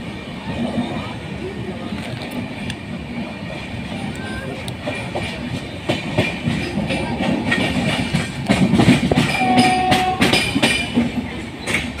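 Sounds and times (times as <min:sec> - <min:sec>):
train rumble: 0:00.0 - 0:12.0
train wheels clattering: 0:01.8 - 0:12.0.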